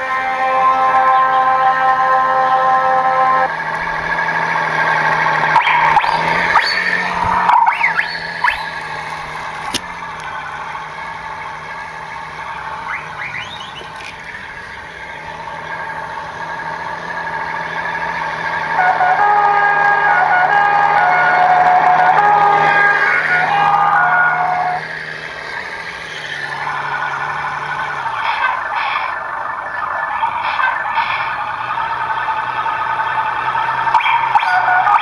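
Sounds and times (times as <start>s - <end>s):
rising and falling whines: 0.0s - 35.0s
truck engine sound from small speaker: 0.0s - 35.0s.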